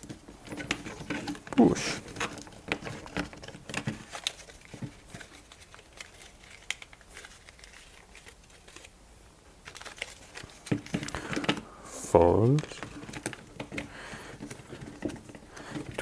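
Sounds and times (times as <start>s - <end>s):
birch bark crinkling: 0.0s - 16.0s.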